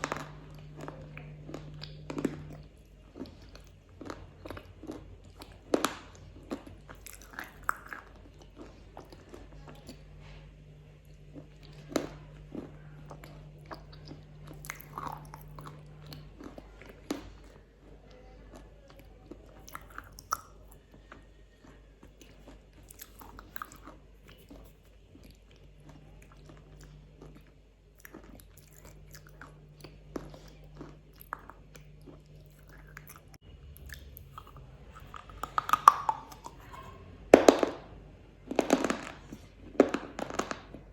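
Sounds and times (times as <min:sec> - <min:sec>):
chewing wafer bar: 0:00.0 - 0:37.1.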